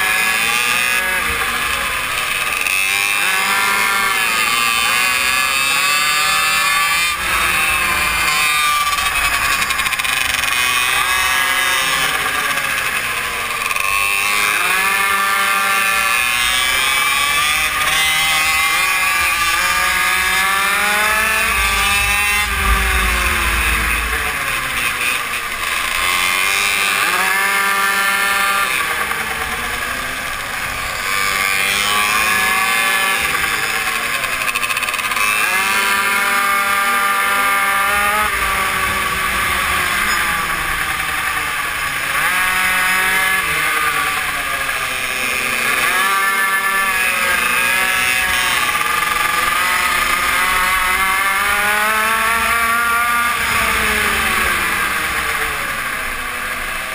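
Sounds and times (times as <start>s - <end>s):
small motorbike engine revving: 0.0s - 56.9s.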